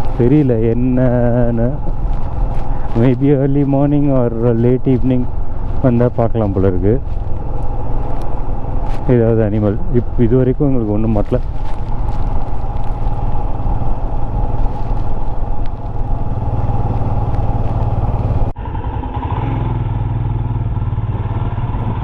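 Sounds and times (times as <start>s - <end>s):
rushing noise: 0.0s - 19.4s
motorcycle engine running: 0.0s - 22.0s.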